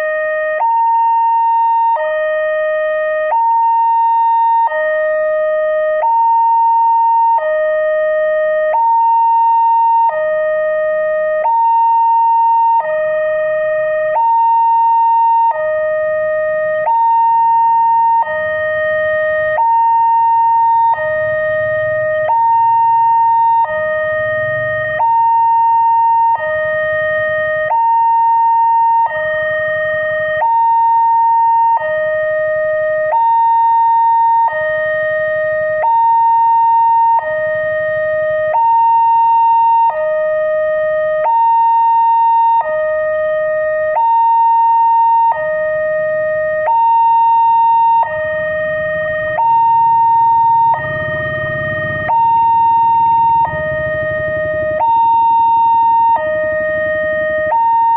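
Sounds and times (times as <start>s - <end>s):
level crossing warning siren: 0.0s - 57.9s.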